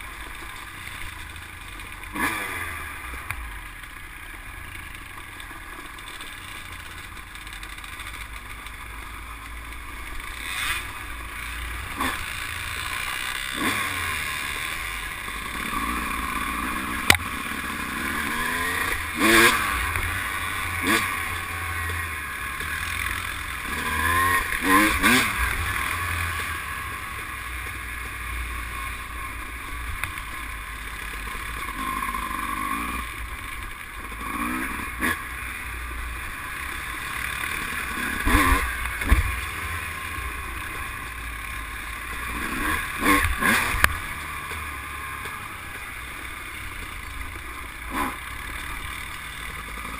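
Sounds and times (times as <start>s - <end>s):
atv engine revving: 0.0s - 49.9s.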